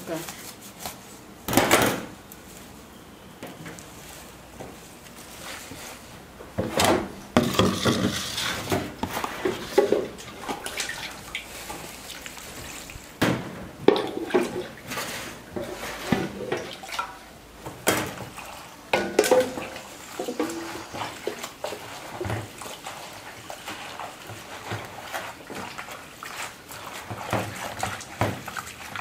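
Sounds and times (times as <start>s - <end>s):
water splashing and sloshing: 3.9s - 29.0s.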